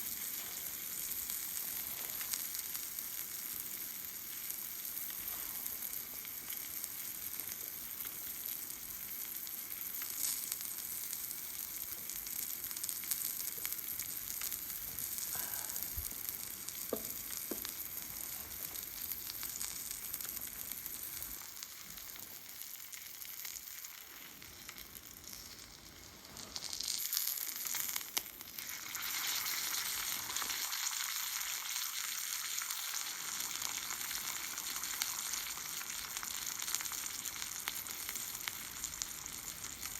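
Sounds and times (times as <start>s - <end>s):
food sizzling: 0.0s - 39.9s.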